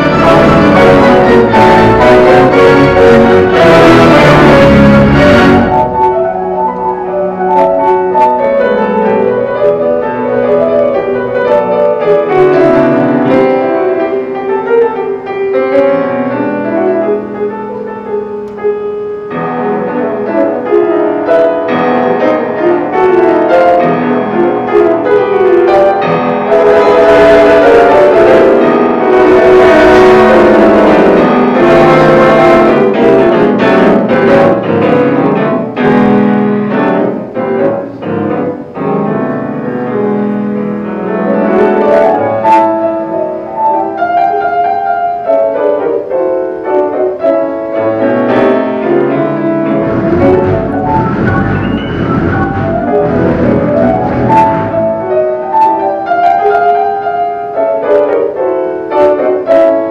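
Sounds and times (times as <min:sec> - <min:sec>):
theatre organ playing: 0:00.0 - 0:57.1
grand piano chords: 0:00.0 - 0:59.9.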